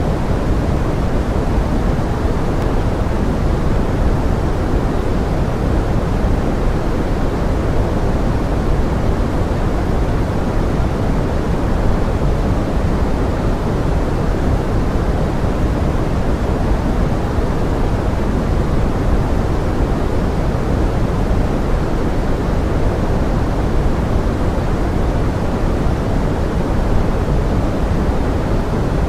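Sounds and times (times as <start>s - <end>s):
pink noise: 0.0s - 29.0s.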